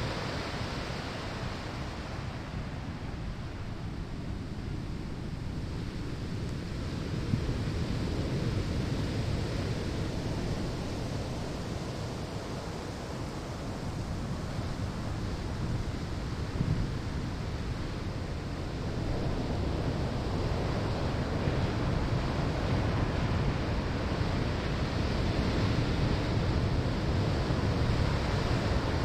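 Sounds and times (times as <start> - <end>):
ocean waves breaking on shore: 0.0 - 29.0.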